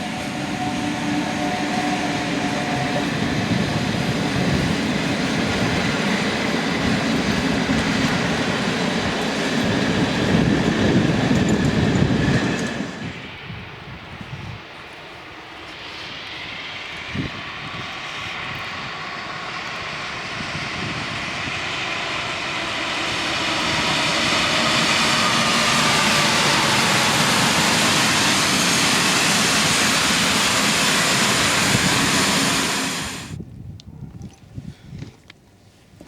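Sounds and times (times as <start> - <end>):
train passing at speed: 0.0 - 33.4.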